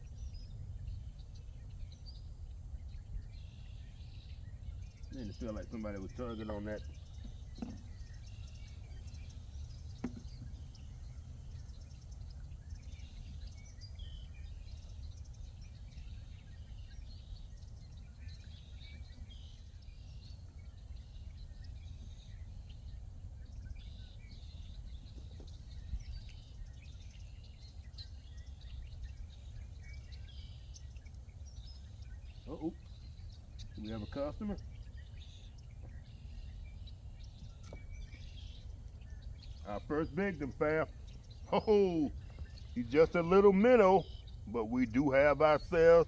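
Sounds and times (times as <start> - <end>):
birds and insects chirping: 0.0 - 46.0.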